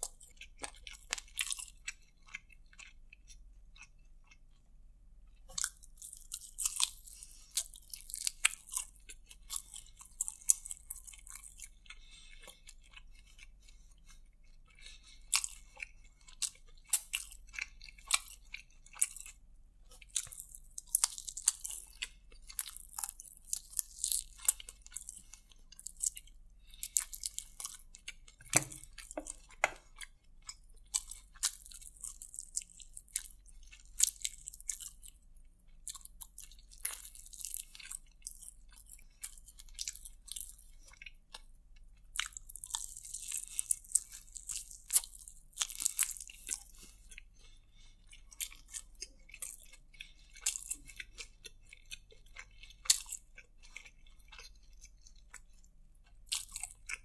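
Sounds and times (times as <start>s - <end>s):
wet chewing and crunching: 0.0s - 57.0s.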